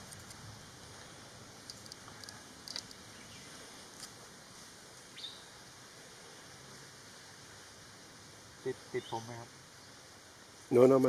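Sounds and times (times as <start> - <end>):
faint forest ambience: 0.0 - 11.0.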